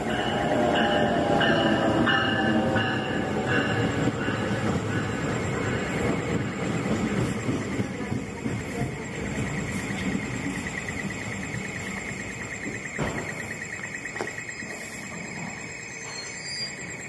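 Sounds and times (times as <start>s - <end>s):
train car clunks: 0.0s - 17.0s
train rolling to a stop: 0.0s - 17.0s.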